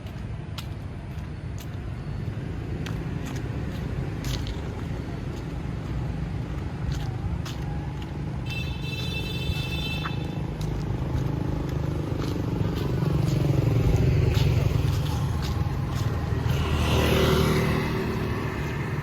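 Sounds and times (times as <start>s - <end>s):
passing motor vehicles rumbling: 0.0s - 19.0s.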